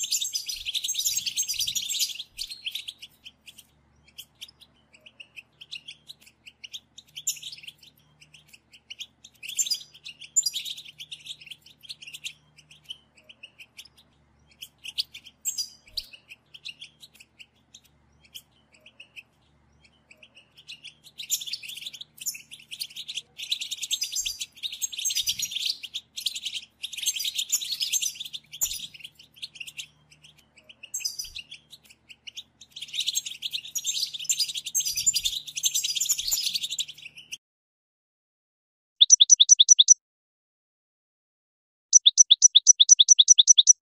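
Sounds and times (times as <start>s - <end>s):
goldfinch twittering song: 0.0s - 37.4s, 39.0s - 40.0s, 41.9s - 43.8s.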